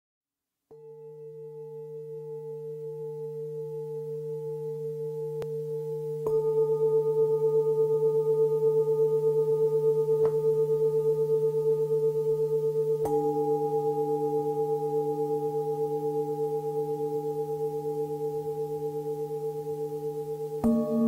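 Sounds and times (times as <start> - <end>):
singing bowl ringing: 0.7 - 21.0.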